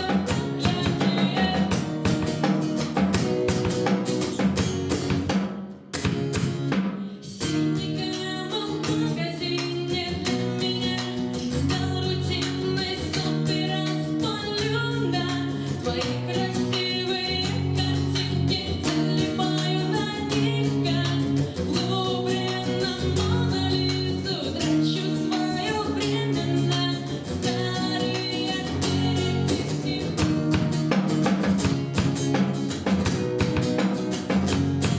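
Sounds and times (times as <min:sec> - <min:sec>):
woman singing: 0:00.0 - 0:02.5, 0:07.0 - 0:32.8
guitar strumming: 0:00.0 - 0:34.9.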